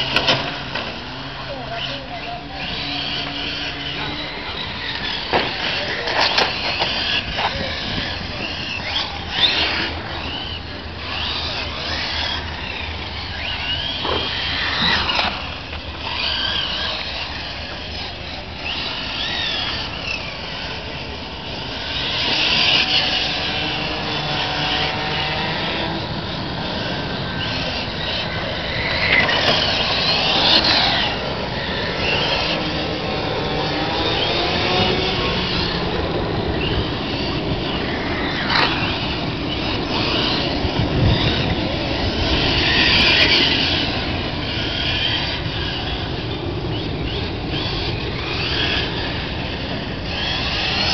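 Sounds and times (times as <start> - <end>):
toy car motors whining: 0.0 - 50.9.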